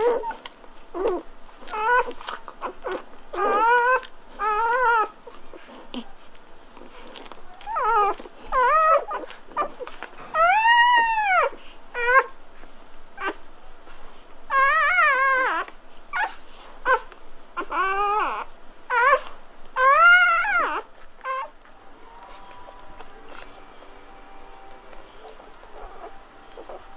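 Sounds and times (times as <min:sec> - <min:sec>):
puppies whimpering and squealing: 0:00.0 - 0:26.9.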